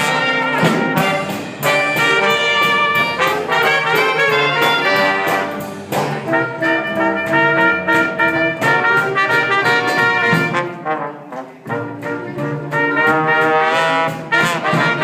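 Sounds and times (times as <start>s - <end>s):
dixieland jazz band playing: 0.0s - 15.0s.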